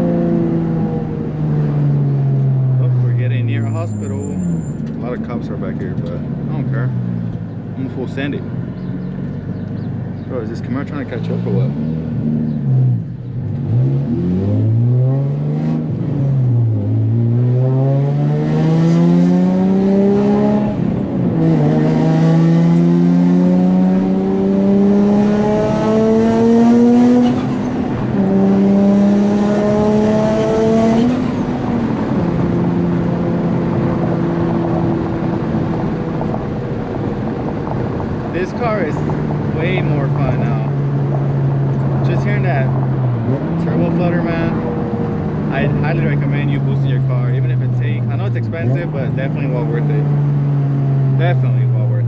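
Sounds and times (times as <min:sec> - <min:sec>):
car engine accelerating: 0:00.0 - 0:52.0.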